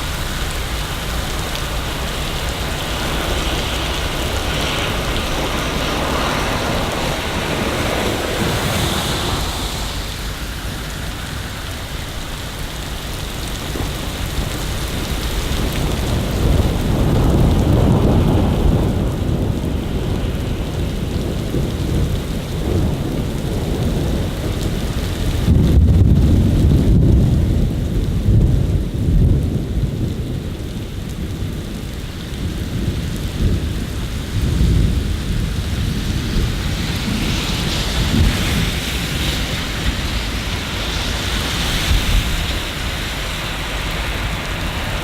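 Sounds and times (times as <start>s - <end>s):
rain hissing: 0.0s - 45.0s
rolling thunder rumble: 0.0s - 45.0s.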